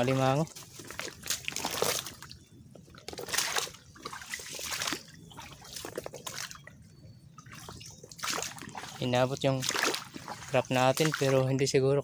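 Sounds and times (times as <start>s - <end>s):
footsteps squelching through mud: 0.0s - 11.8s.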